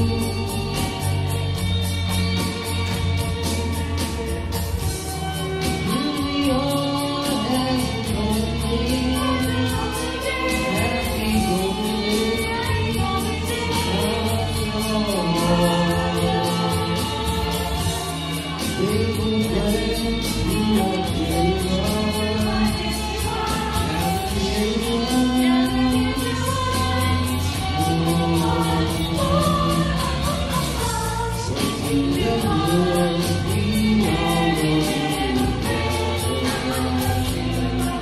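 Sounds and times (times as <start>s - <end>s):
group singing a christmas song: 0.0s - 38.0s
instrumental backing with beat: 0.0s - 38.0s.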